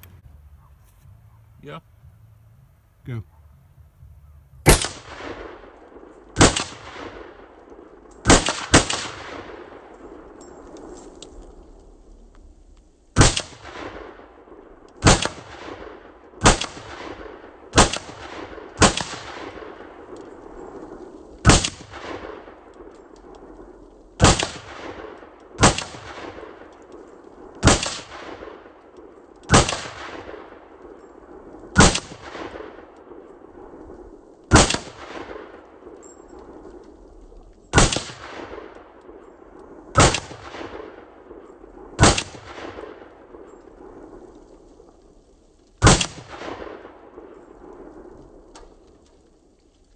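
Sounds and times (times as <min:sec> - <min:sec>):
rifle shots with echo: 0:04.6 - 0:11.6, 0:13.1 - 0:45.2, 0:45.8 - 0:49.0.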